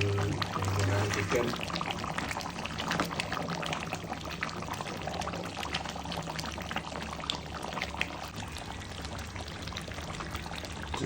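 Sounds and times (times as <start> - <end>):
chicken bubbling in a pan: 0.0 - 11.0.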